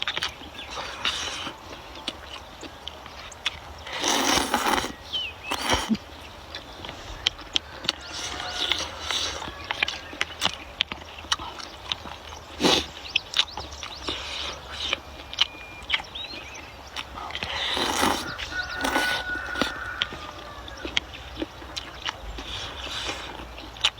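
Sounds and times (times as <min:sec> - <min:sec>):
wet chewing and smacking: 0:00.0 - 0:23.9
noisy bites or slurps: 0:00.1 - 0:02.4, 0:03.4 - 0:06.1, 0:06.8 - 0:15.3, 0:17.0 - 0:20.2, 0:20.8 - 0:23.9.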